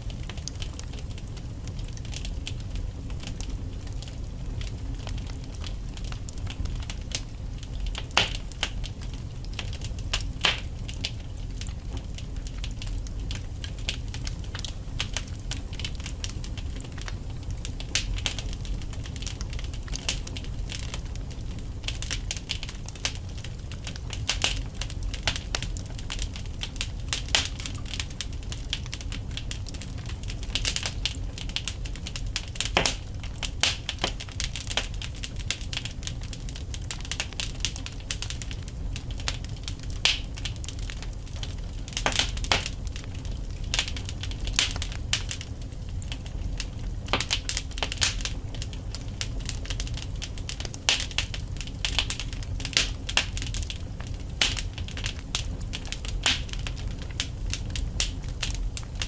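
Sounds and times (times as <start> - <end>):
logs crackling and popping: 0.0 - 59.0
low rumble of flame: 0.0 - 59.0.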